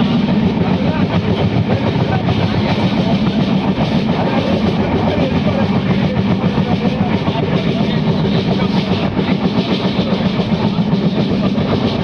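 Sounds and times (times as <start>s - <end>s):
passenger train rumbling and rattling: 0.0s - 12.0s.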